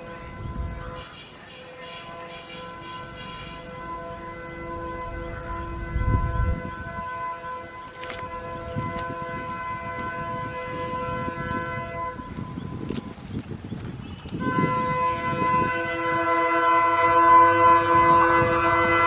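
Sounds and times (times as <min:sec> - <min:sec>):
locomotive horn: 0:00.0 - 0:12.9, 0:14.3 - 0:19.0
train rumbling: 0:00.0 - 0:19.0.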